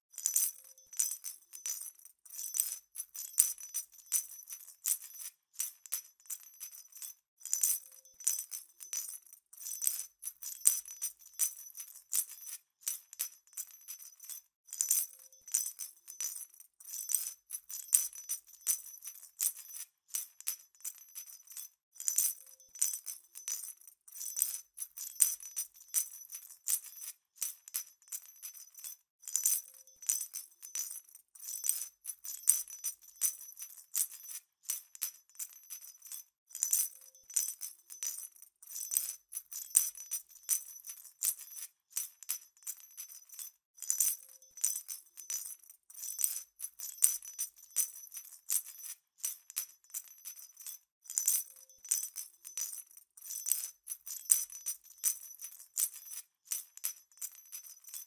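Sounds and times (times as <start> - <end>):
small jingle bells shaking: 0.1 - 58.0.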